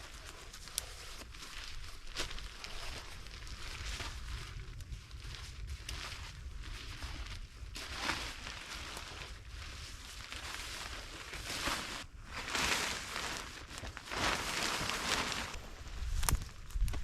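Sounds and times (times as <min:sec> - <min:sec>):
rustling and handling noise: 0:00.0 - 0:17.0.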